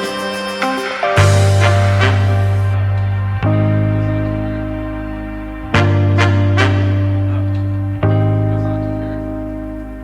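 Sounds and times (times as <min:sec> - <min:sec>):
instrumental chords: 0:00.0 - 0:10.0
deep bass note: 0:01.2 - 0:10.0.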